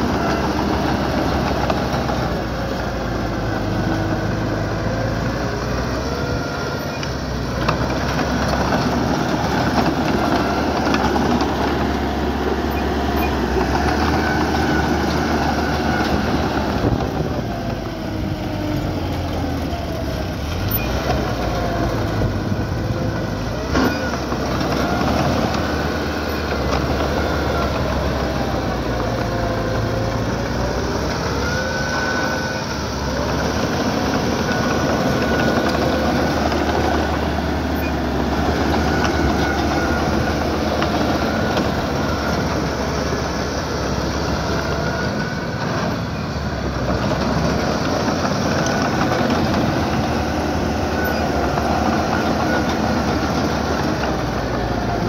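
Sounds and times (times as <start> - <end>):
bulldozer diesel engine: 0.0 - 55.0
steel tracks clanking and squeaking: 6.6 - 18.3, 19.0 - 55.0.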